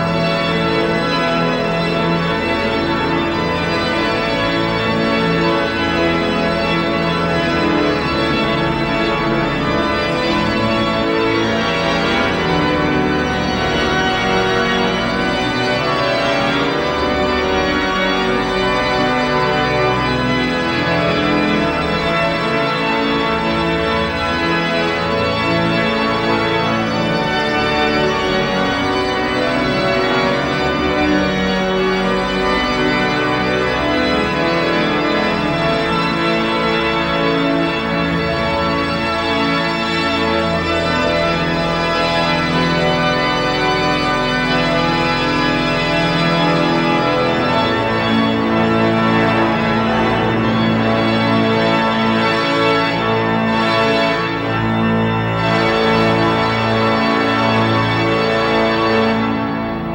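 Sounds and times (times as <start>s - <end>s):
pipe organ chords: 0.0s - 59.9s.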